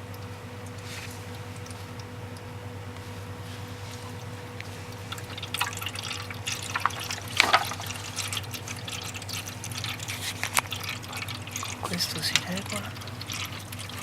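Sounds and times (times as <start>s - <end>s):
steady low hum: 0.0s - 14.0s
water trickling and dripping: 0.0s - 14.0s.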